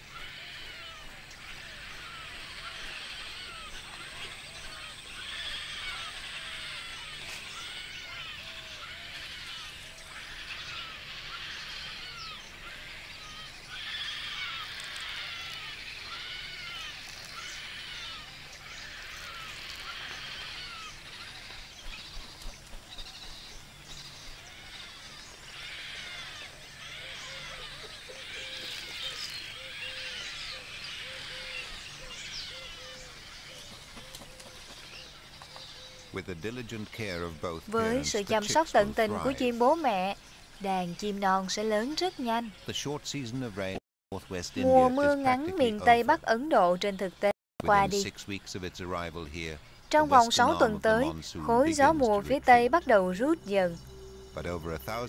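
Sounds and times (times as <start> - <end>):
chorus of squeaky bird calls: 0.0 - 55.0.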